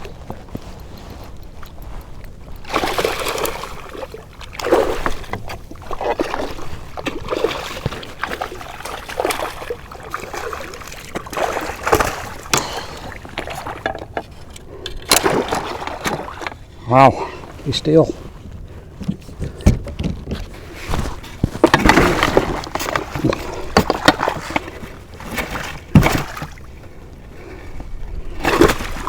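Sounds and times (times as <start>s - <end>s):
water splashing against kayak: 0.0s - 16.8s, 17.4s - 29.0s.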